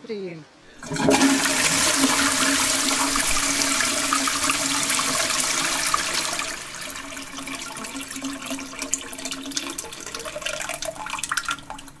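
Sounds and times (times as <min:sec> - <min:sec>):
rushing gurgling water: 0:00.8 - 0:12.0.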